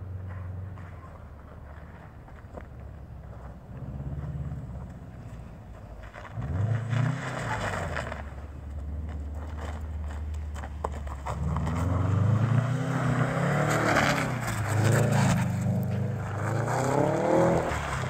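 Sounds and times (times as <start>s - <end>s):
tyres churning snow: 0.8s - 18.0s
car engine revving: 3.2s - 18.0s.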